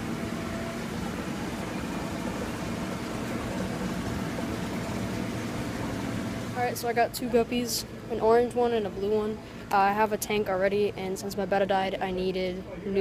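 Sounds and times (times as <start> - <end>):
store room hum and hiss: 0.0 - 13.0.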